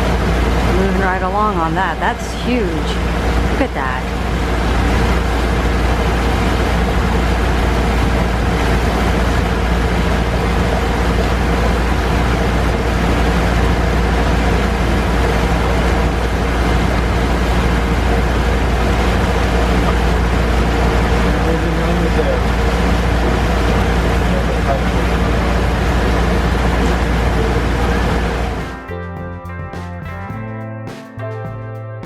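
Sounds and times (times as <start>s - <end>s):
vehicle engine drone: 0.0s - 31.4s.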